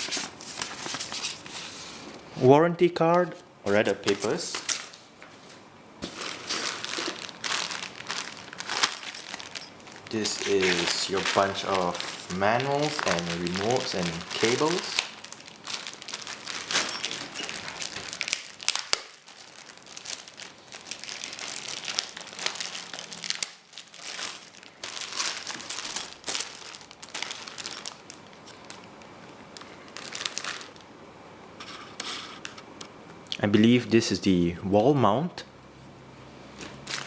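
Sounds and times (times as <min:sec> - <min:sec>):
packaging crinkling and rustling: 0:00.0 - 0:02.3, 0:03.2 - 0:30.9, 0:36.5 - 0:37.0.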